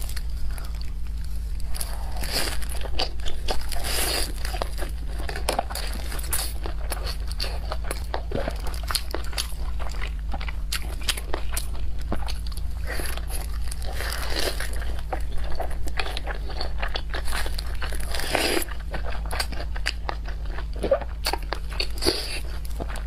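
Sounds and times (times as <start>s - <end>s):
crisp crackles of chewing: 0.0s - 23.0s
steady low hum: 0.0s - 23.0s.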